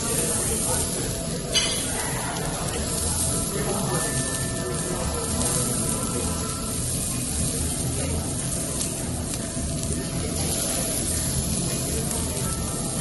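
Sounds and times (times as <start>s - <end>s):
beef sizzling on a grill: 0.0s - 13.0s.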